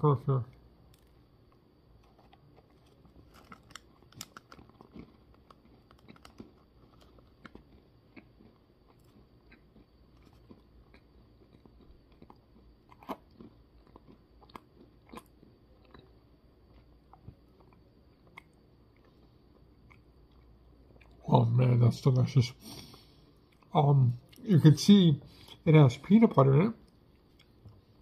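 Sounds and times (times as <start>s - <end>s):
person chewing cookie: 0.9s - 21.2s, 22.6s - 24.5s, 26.8s - 28.0s.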